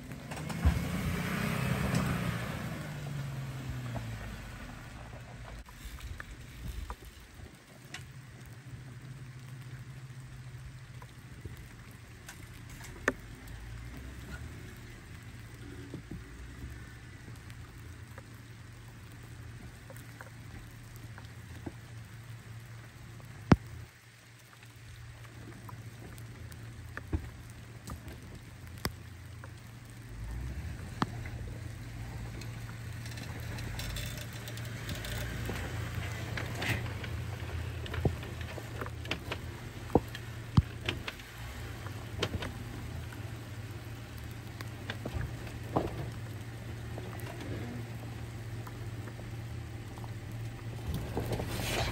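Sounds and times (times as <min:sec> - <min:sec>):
gravel crunching under tyres: 0:00.0 - 0:51.9
off-road vehicle engine humming: 0:00.0 - 0:51.9.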